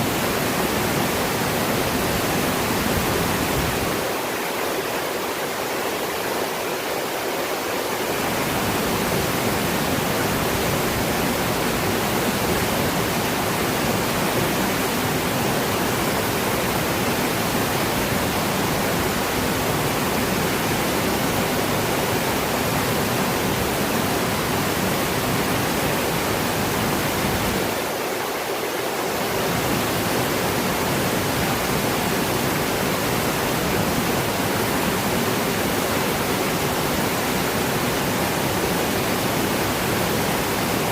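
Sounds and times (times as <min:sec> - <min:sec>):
water falling and rushing: 0:00.0 - 0:40.9.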